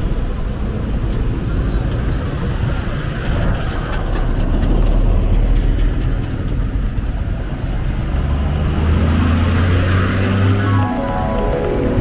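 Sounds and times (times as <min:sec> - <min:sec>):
vehicles passing on highway: 0:00.0 - 0:12.0.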